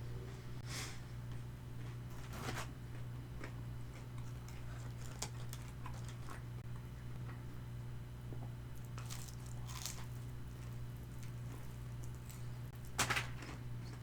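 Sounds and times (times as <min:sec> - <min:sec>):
steady low hum: 0:00.0 - 0:14.0
crunchy chewing of fried chicken: 0:01.8 - 0:14.0.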